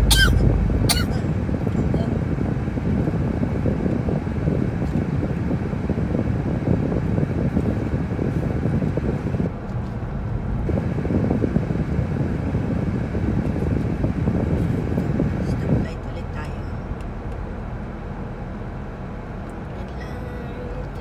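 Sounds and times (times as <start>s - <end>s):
car cabin road and engine noise: 0.0s - 21.0s.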